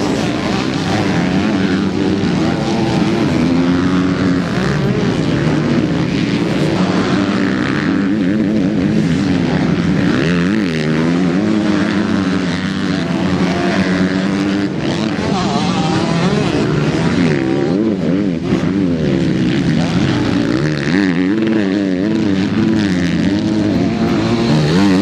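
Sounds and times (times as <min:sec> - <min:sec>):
motocross bikes revving past: 0:00.0 - 0:25.0.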